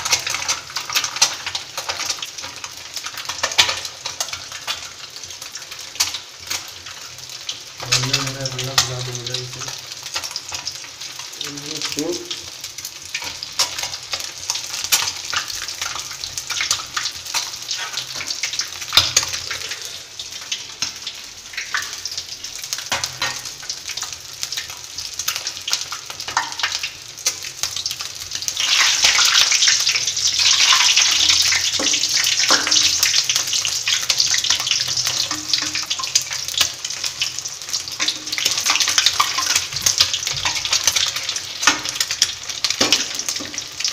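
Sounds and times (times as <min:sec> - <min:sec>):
eggs sizzling in hot oil: 0:00.0 - 0:43.9.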